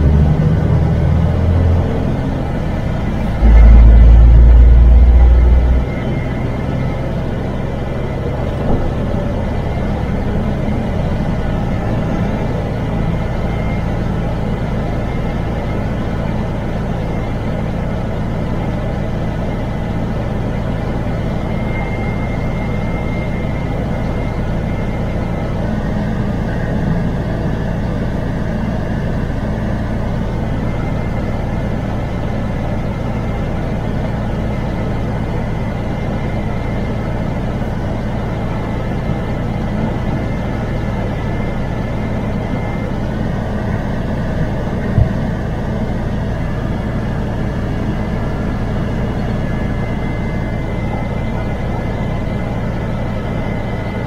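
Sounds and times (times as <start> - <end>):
road noise: 0.0 - 54.0
truck diesel engine running: 0.0 - 54.0
faint high whine: 2.6 - 54.0.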